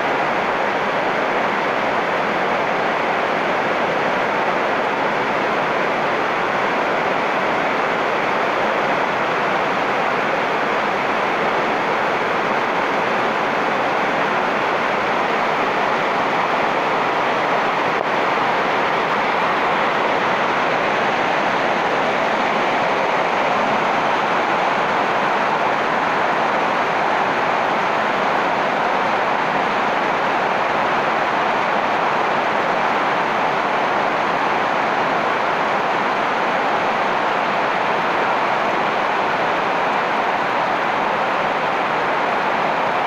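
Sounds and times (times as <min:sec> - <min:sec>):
heavy rain on foliage: 0:00.0 - 0:43.0.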